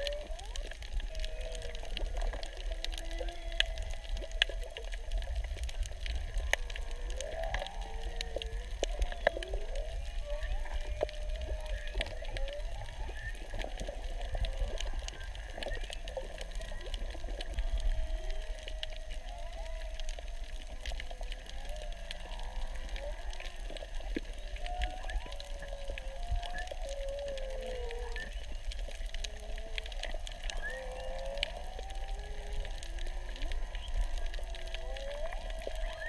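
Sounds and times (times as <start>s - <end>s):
low rumble of water: 0.0s - 36.0s
sharp underwater clicks: 0.0s - 36.0s
whale song moans and whoops: 0.0s - 36.0s.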